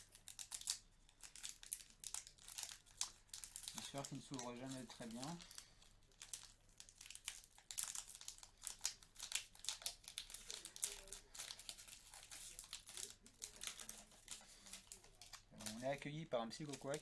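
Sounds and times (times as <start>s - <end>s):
foil wrapper tearing and crinkling: 0.0s - 17.0s.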